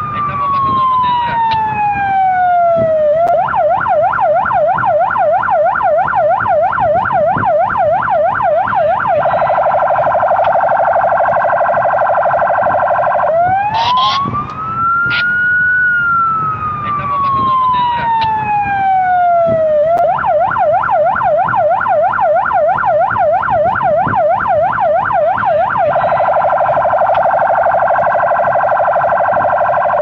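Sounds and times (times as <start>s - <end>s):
police siren wailing and yelping: 0.0s - 30.0s.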